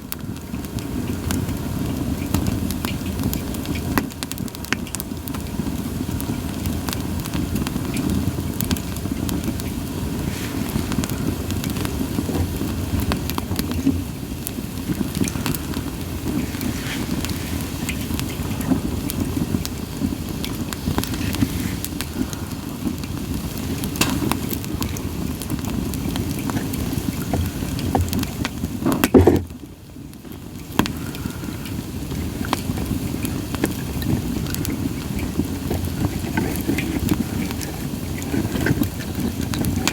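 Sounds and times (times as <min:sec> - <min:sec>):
wood fire crackling: 0:00.0 - 0:39.9
flame rushing: 0:00.1 - 0:39.9.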